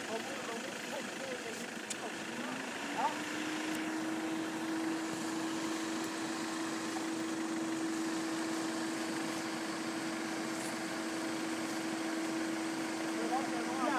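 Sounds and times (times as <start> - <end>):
motor humming: 0.0 - 13.9.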